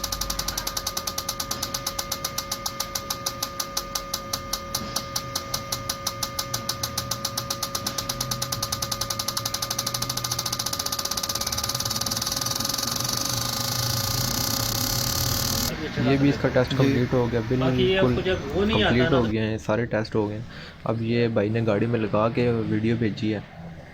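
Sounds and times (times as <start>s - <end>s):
fuel injectors clicking: 0.0s - 19.4s
machine whine: 0.0s - 19.4s.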